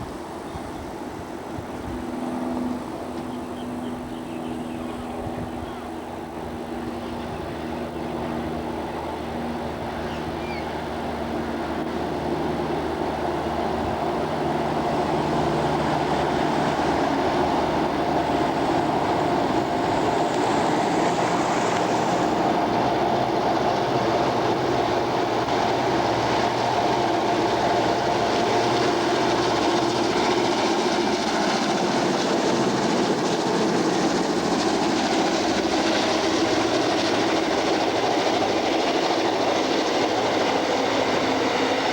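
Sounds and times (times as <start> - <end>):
locomotive engine running: 0.1 - 41.9.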